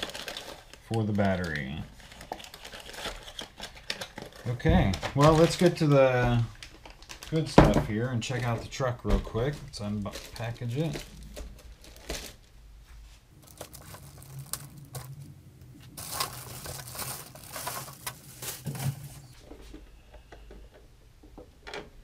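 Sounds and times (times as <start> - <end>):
plastic bag crinkling: 0.0 - 8.6, 9.4 - 12.6, 13.3 - 19.4.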